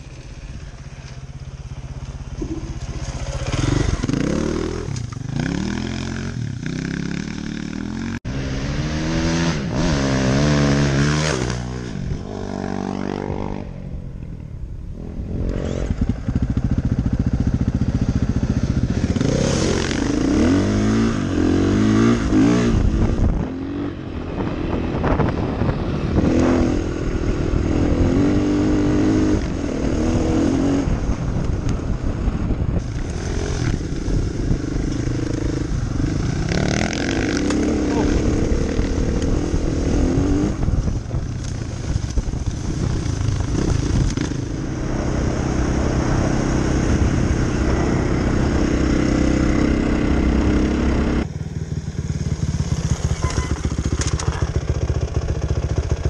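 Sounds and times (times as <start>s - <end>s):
motorcycle engine revving: 0.0s - 14.2s, 15.0s - 56.0s.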